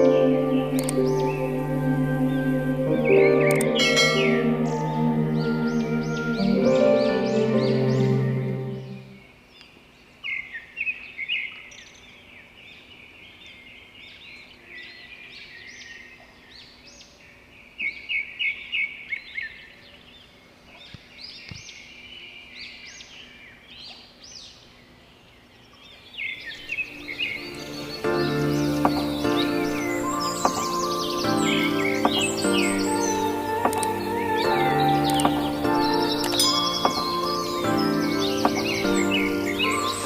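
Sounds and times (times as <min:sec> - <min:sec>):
wild birds chirping: 0:00.0 - 0:40.0.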